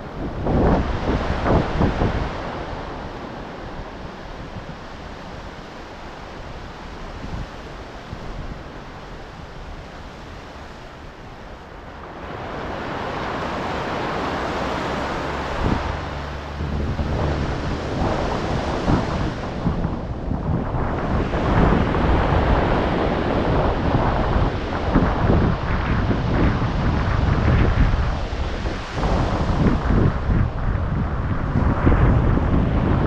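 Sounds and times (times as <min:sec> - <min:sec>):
ocean waves breaking: 0:00.0 - 0:33.0
wind buffeting microphone: 0:00.0 - 0:33.0.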